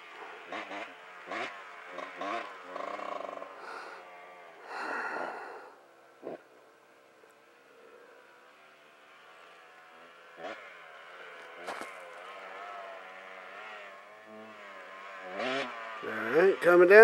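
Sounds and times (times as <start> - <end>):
distant dirt bike engine: 0.0 - 17.0.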